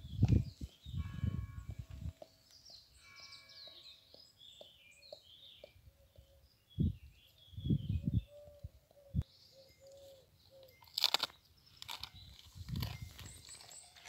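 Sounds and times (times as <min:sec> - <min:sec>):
small birds chirping: 0:01.9 - 0:14.0.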